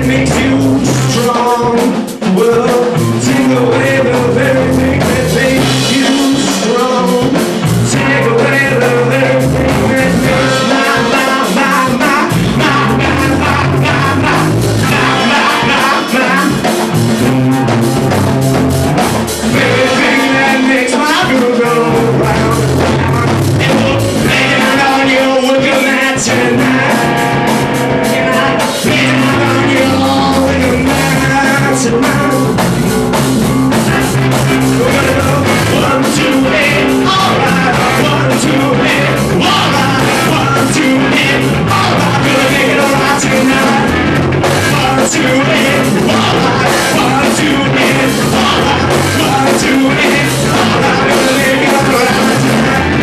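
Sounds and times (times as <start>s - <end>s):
person singing into a microphone: 0.0s - 17.8s, 19.3s - 33.2s, 33.8s - 53.0s
distorted electric guitar: 0.0s - 53.0s.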